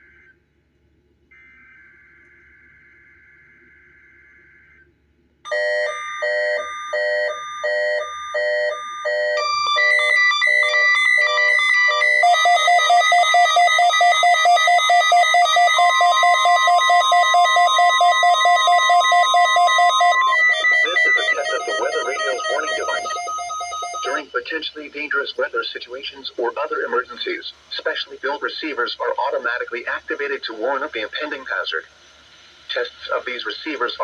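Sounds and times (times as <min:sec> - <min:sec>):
beeping alarm: 0:01.3 - 0:34.0
rapid pulsing alarm: 0:01.3 - 0:34.0
steady warning tone: 0:01.3 - 0:34.0.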